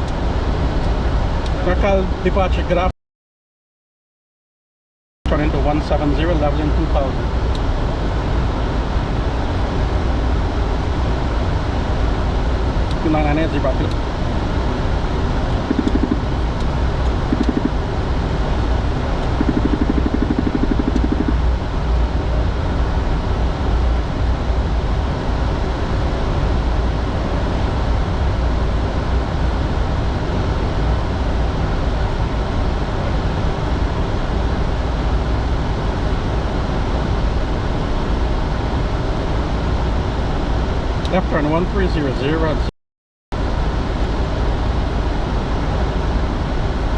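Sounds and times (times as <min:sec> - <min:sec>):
jet cockpit air rush and engine drone: 0:00.0 - 0:02.9, 0:05.3 - 0:42.7, 0:43.4 - 0:46.9.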